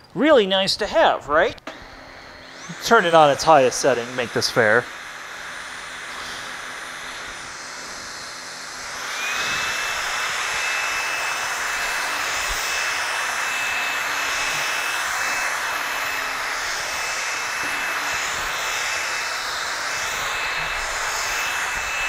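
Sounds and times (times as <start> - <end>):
vacuum cleaner motor whine: 1.4 - 22.0.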